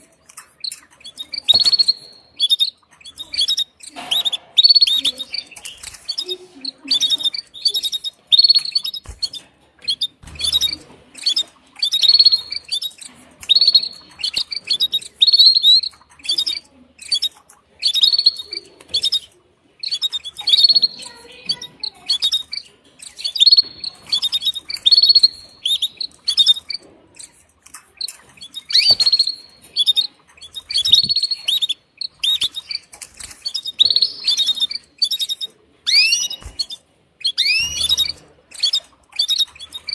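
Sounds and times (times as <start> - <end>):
canary chirping: 0.0 - 39.9.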